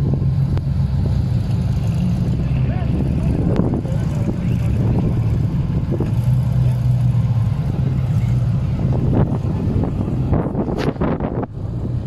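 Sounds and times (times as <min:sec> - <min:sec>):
off-road vehicle engine droning: 0:00.0 - 0:12.0.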